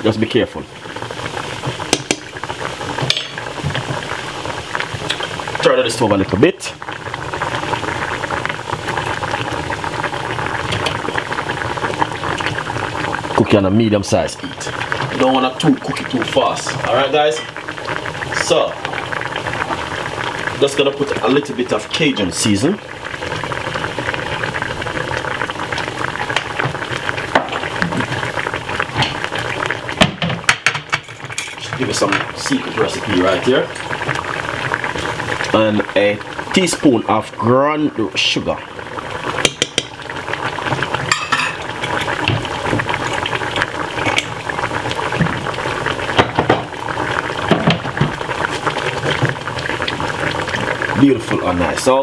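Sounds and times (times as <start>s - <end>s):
meat sizzling in a saucepan: 0.0s - 52.0s.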